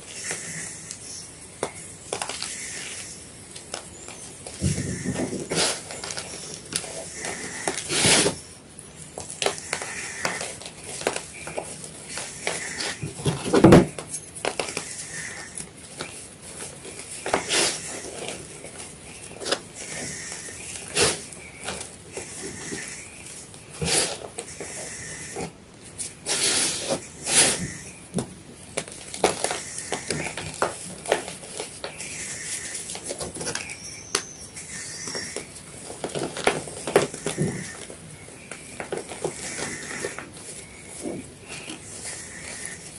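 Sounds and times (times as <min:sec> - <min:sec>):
chalk being crushed: 0:00.1 - 0:42.9.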